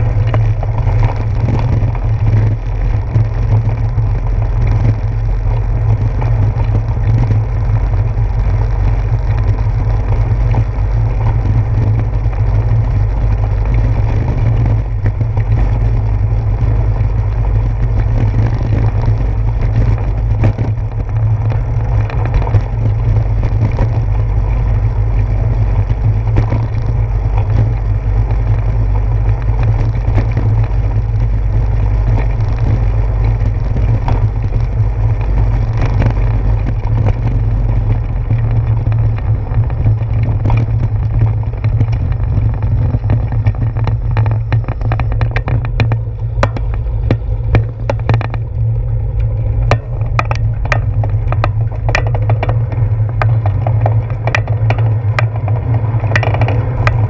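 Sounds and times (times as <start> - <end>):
bicycle rolling over bricks: 0.0 - 57.0.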